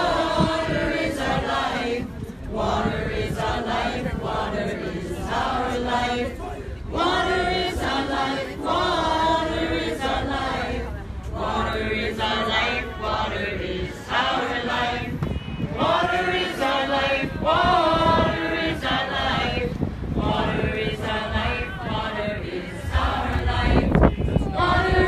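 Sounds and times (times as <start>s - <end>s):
crowd singing in unison: 0.0s - 25.0s.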